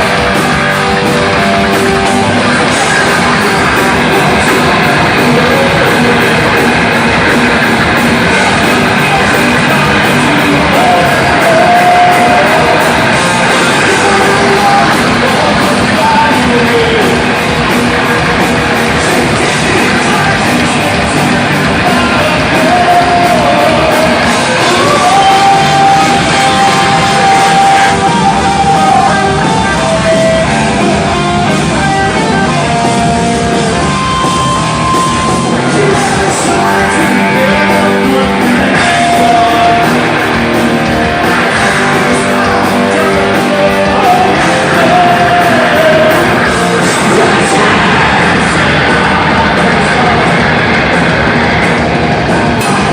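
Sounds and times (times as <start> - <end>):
singer shouting vocals: 0.0 - 51.0, 52.6 - 52.9
rock band playing live: 0.0 - 52.9.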